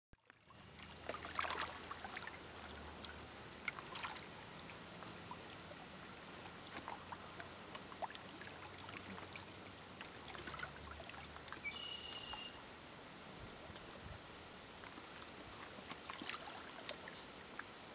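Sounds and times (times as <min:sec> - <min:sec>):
water lapping against rocks: 0:00.2 - 0:12.5, 0:13.4 - 0:17.8
low steady hum: 0:00.2 - 0:17.9.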